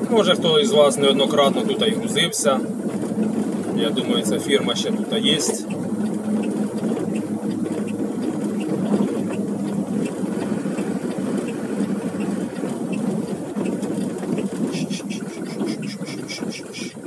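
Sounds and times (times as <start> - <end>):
truck engine running: 0.0 - 17.0
tyres on paving blocks: 0.0 - 17.0.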